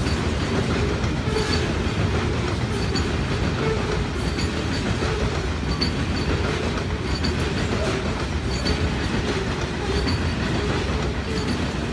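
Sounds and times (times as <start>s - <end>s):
train wheels rumbling on rails: 0.0s - 11.9s
wheel squeals: 1.2s - 1.8s, 2.7s - 11.9s.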